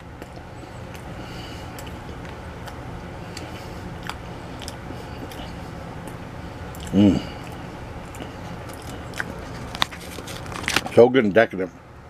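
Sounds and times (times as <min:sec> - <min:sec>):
close-up chewing: 0:00.0 - 0:11.0
steady low hum: 0:00.0 - 0:12.0.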